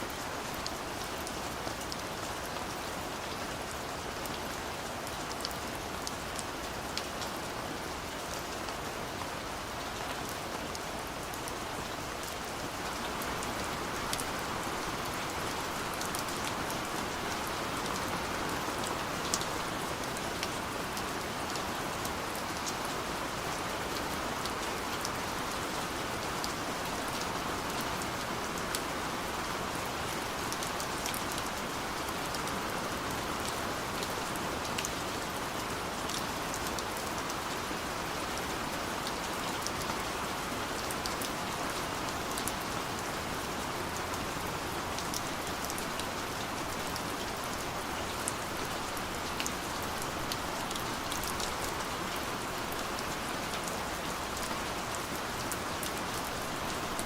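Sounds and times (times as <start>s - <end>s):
rain falling: 0.0s - 57.0s
raindrops ticking on a surface: 0.1s - 57.0s.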